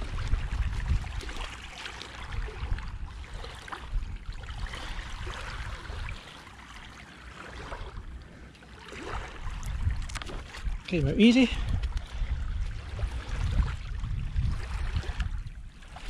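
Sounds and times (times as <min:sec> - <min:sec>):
wind rumbling on microphone: 0:00.0 - 0:06.3, 0:09.0 - 0:16.0.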